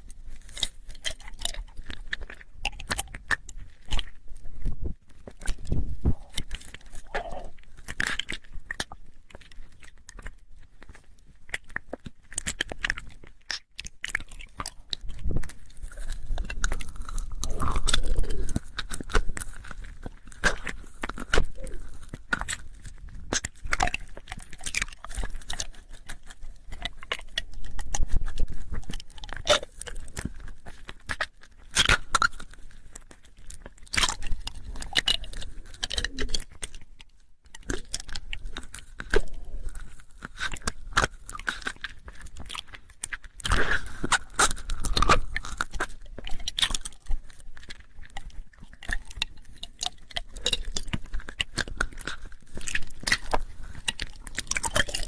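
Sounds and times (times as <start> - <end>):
wet mouth clicks and smacks: 0.0 - 55.0.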